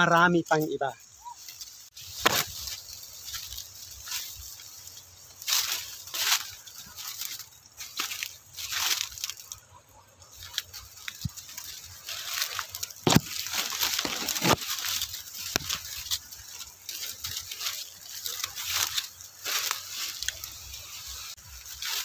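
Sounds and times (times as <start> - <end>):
dry leaves rustling and crackling: 0.0 - 22.0.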